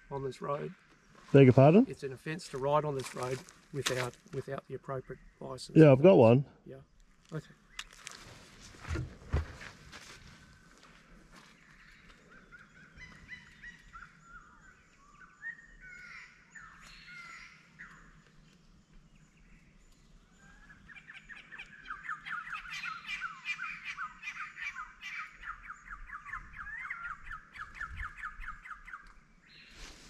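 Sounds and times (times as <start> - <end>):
wild birds chirping: 0.0 - 30.0.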